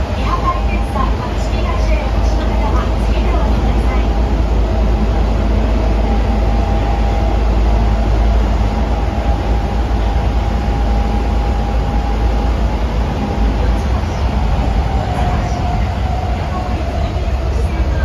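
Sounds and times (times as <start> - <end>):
subway car wheels rumbling: 0.0 - 18.0.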